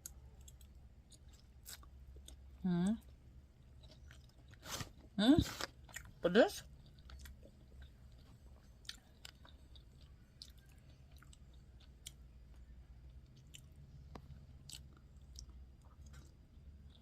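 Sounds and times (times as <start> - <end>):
chewing noodles: 0.0 - 17.0
low steady hum: 0.0 - 17.0.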